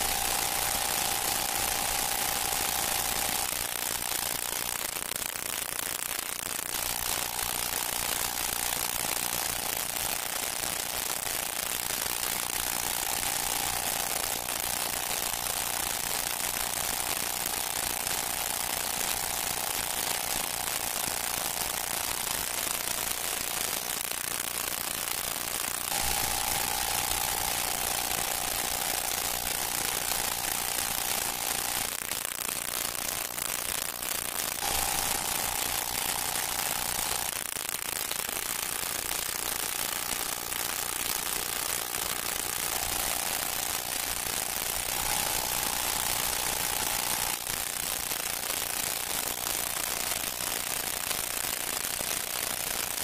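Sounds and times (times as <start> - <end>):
steady hiss: 0.0 - 53.0
thin steady whine: 0.0 - 53.0.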